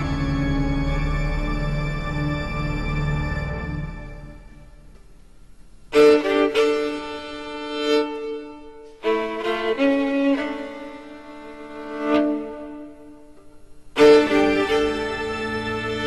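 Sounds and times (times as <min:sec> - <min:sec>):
bowed strings led by violin: 0:00.0 - 0:05.0, 0:05.9 - 0:16.0.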